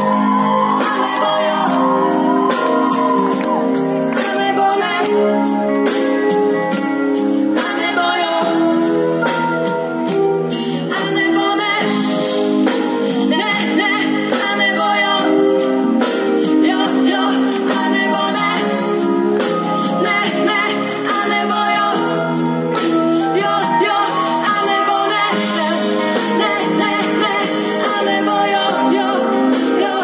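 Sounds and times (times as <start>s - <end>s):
woman singing: 0.0s - 6.8s, 7.5s - 30.0s
keyboards: 0.0s - 30.0s.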